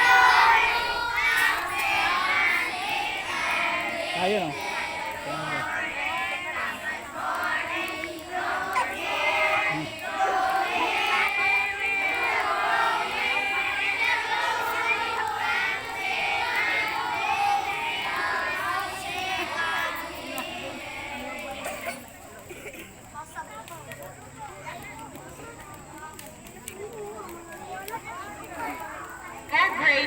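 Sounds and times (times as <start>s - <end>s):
children shouting and singing: 0.0s - 30.0s.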